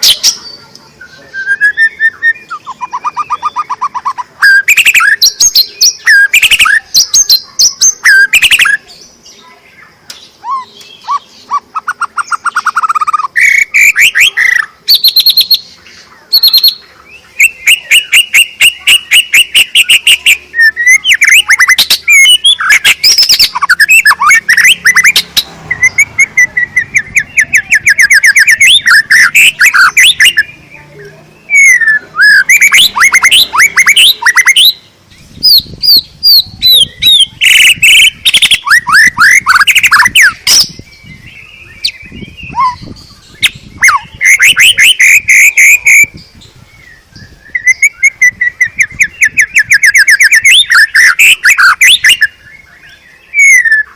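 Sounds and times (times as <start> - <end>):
bird singing whistles and trills: 0.0 - 53.9.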